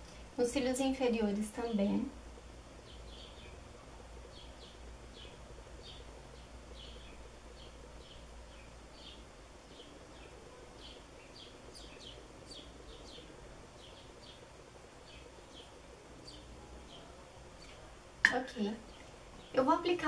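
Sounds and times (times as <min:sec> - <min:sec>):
low steady hum: 0:00.0 - 0:20.0
faint bird chirping: 0:00.1 - 0:20.0.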